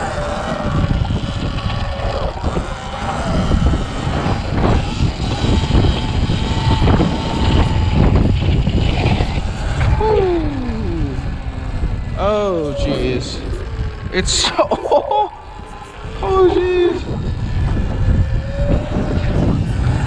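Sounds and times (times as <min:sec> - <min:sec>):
electric motorbike motor whine: 0:00.0 - 0:20.0
wind rumble on microphone: 0:00.0 - 0:20.0.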